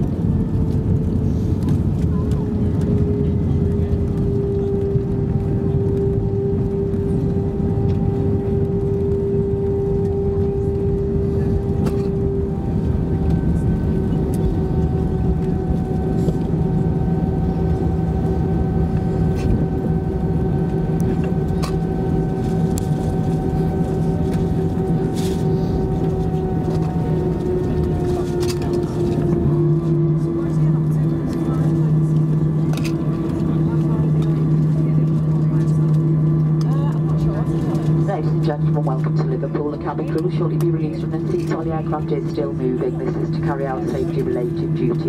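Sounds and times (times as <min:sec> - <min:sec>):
jet engines rumbling: 0:00.0 - 0:45.0.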